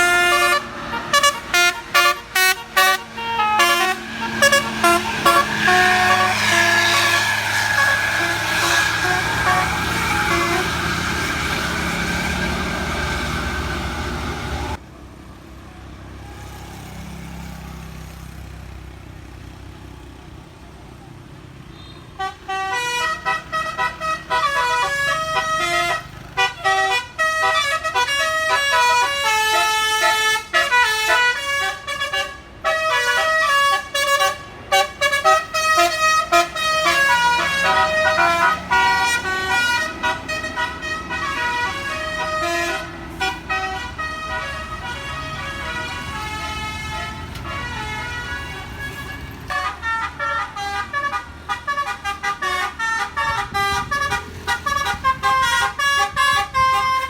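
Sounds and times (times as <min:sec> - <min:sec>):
air horn playing a tune: 0:00.0 - 0:14.8, 0:21.8 - 0:57.0
bus engine and road noise: 0:00.0 - 0:57.0.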